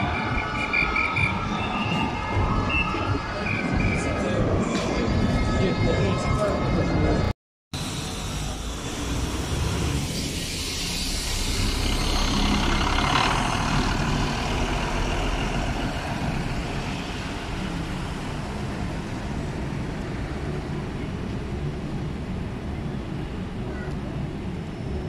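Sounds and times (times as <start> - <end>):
bus engine rumble: 0.0 - 25.0
street traffic noise: 0.0 - 25.0.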